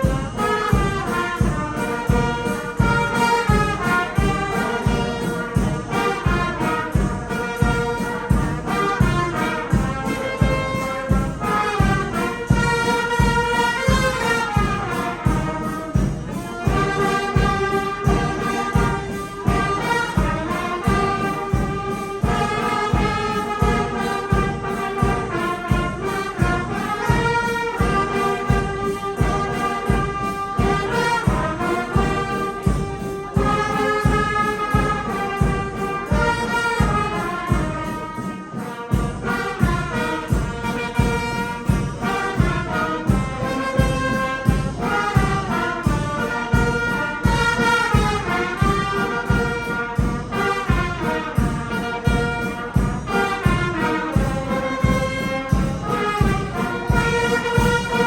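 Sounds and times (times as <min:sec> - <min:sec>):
brass band playing a hymn: 0:00.0 - 0:58.0.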